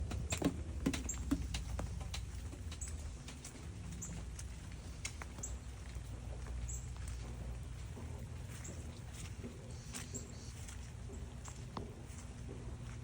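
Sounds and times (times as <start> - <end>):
light clicks and rustles: 0.0 - 13.0.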